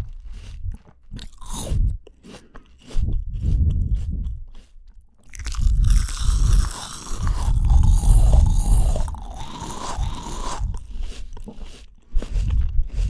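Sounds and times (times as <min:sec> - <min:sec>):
crunching and chewing fruit: 0:00.0 - 0:13.0.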